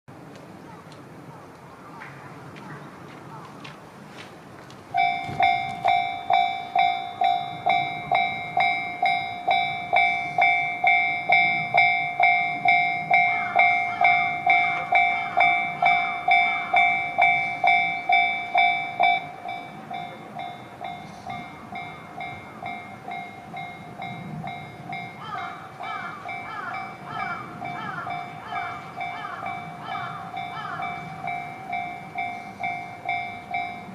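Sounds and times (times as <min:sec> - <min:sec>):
level-crossing warning bell ringing: 0:04.9 - 0:33.9.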